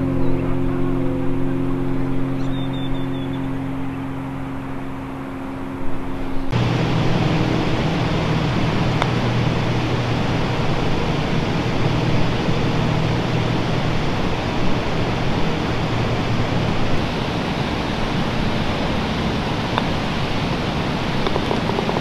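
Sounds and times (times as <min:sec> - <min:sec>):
low hum: 0:00.0 - 0:22.0
steady rushing noise: 0:00.0 - 0:22.0.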